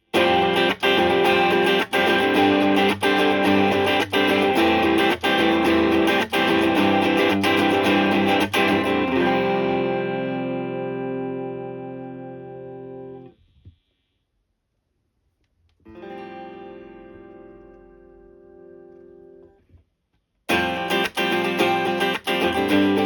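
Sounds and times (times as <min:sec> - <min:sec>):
overdriven electric guitar chords: 0:00.0 - 0:13.3, 0:15.9 - 0:19.5, 0:20.5 - 0:23.0.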